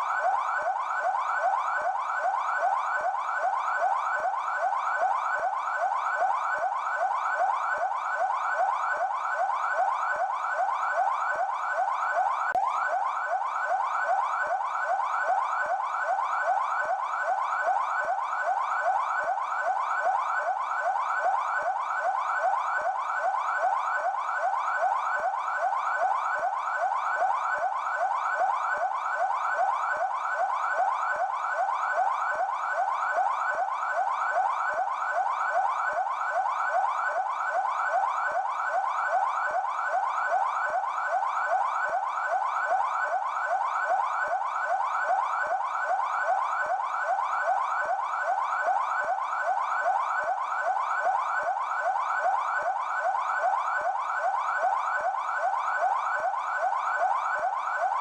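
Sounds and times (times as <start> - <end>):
police siren yelping: 0.0 - 58.0.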